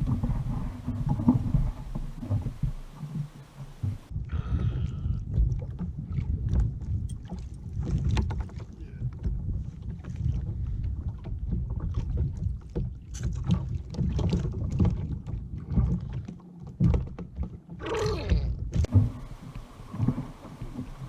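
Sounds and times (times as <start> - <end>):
small knocks and clicks on boat: 0.0 - 21.0
water against kayak hull: 0.0 - 21.0.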